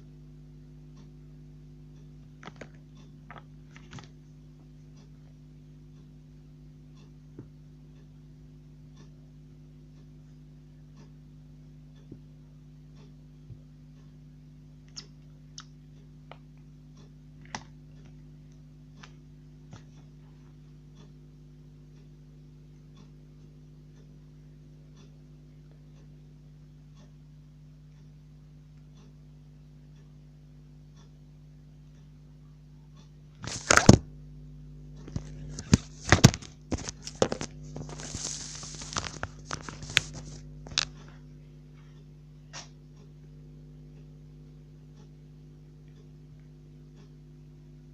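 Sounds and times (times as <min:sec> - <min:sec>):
low hum: 0:00.0 - 0:47.9.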